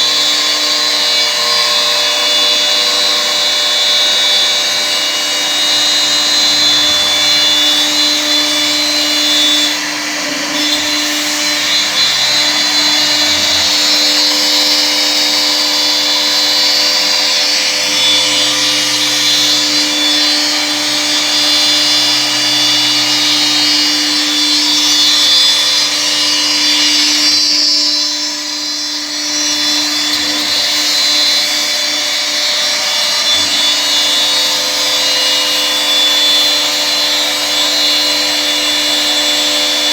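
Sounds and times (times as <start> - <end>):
router bit cutting wood: 0.0 - 39.9
router spindle whining: 0.0 - 39.9.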